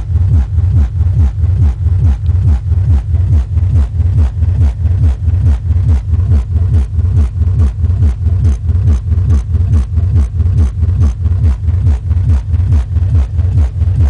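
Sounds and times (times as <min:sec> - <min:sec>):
bass-heavy music: 0:00.0 - 0:14.0.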